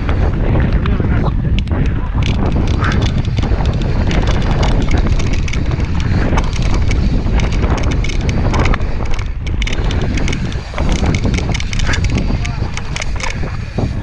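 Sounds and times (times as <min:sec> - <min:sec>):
bike chain and parts rattling: 0:00.0 - 0:14.0
knobby tyres rumbling on dirt: 0:00.0 - 0:14.0
wind buffeting microphone: 0:00.0 - 0:14.0.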